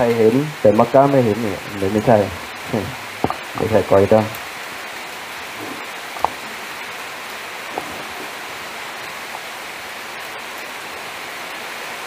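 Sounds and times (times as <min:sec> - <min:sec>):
steady broad noise hiss: 0:00.0 - 0:12.0.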